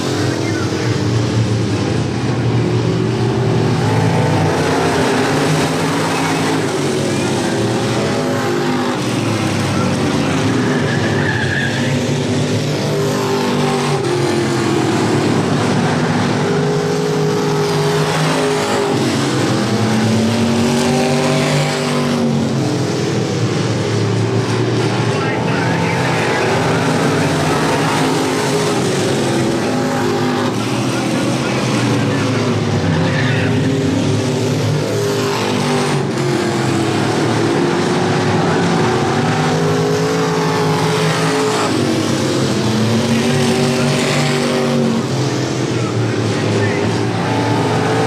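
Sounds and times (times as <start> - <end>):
race car engines revving: 0.0 - 48.0.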